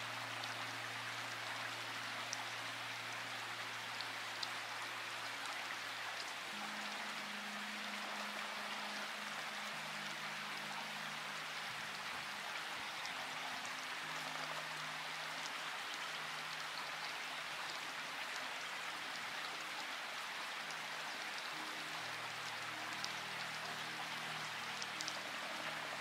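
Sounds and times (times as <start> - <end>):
soft low music notes: 0.0 - 26.0
steady rain: 0.0 - 26.0.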